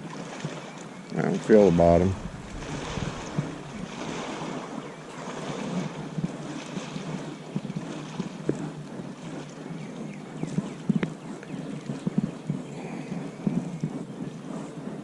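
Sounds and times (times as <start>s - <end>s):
water lapping against hull: 0.0s - 15.0s
wind buffeting microphone: 0.0s - 15.0s.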